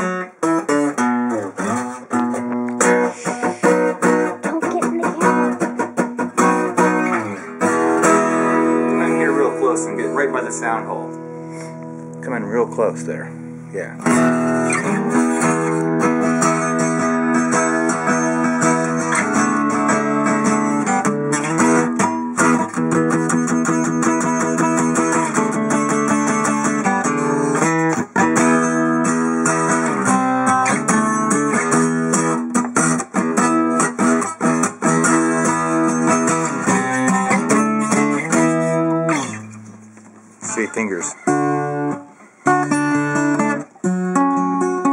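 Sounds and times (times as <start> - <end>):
acoustic guitar strumming and picking: 0.0 - 44.9.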